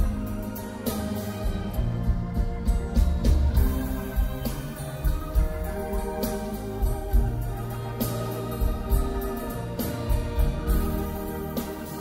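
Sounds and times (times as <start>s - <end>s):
drums hitting: 0.0s - 12.0s
electric organ chords: 0.0s - 12.0s
rock band playing: 0.0s - 12.0s.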